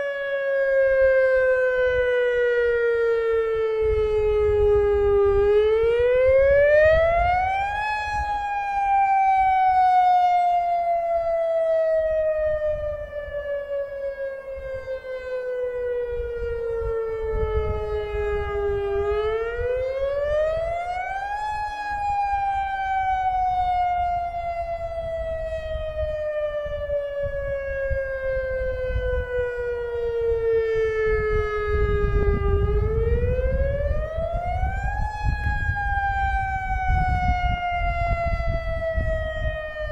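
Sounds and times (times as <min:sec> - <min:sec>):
distant fainter siren: 0:00.0 - 0:39.9
warning siren wailing: 0:00.0 - 0:39.9.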